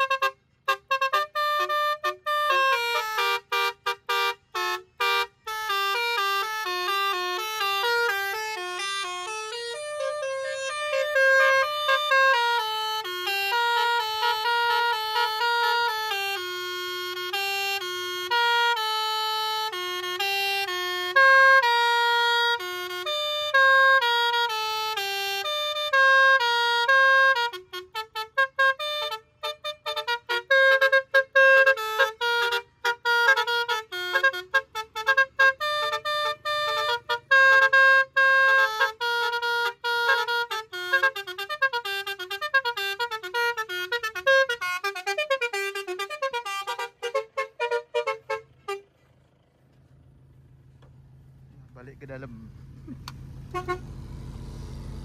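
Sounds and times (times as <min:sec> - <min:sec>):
musical car horn melody: 0:00.0 - 0:49.5, 0:51.9 - 0:55.0.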